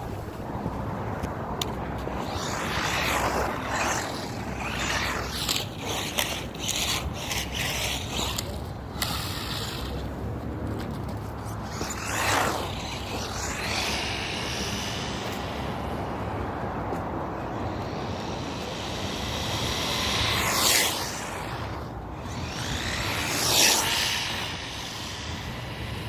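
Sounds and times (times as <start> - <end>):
steady rushing noise: 0.0 - 26.0
electric motor whining: 2.0 - 10.1, 11.4 - 26.0.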